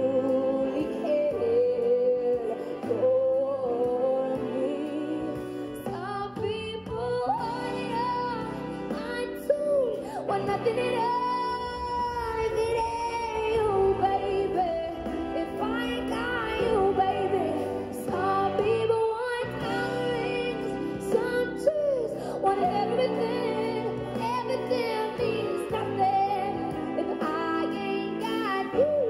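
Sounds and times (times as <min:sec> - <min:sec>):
instrumental backing music: 0:00.0 - 0:29.0
woman singing into microphone: 0:00.0 - 0:29.0.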